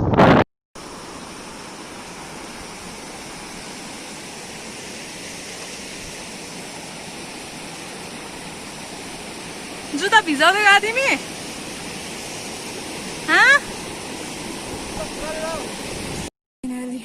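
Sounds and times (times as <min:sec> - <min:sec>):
waterfall rushing: 0:00.8 - 0:16.3.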